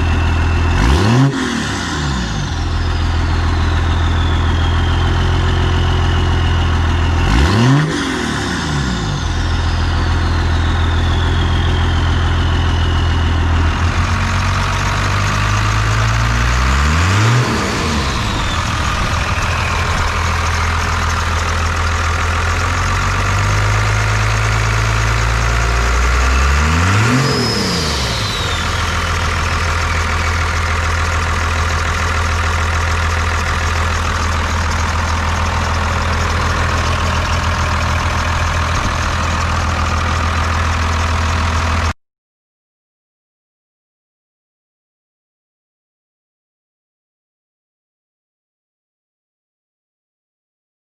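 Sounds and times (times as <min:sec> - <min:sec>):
turbo whistling: 0:00.0 - 0:41.9
diesel engine idling and revving: 0:00.0 - 0:42.0.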